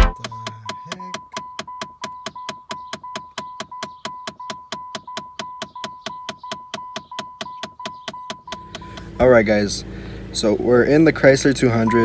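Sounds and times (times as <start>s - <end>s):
rapid clicking behind dashboard: 0.1s - 12.0s.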